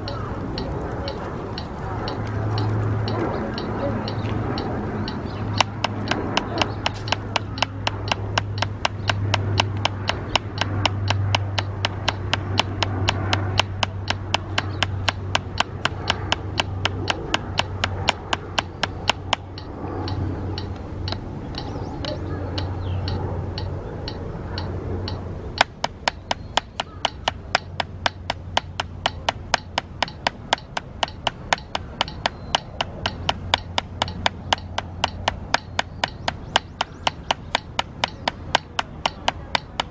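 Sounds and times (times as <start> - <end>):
drumsticks tapping practice pad: 0.0 - 39.9
low hum: 0.0 - 39.9.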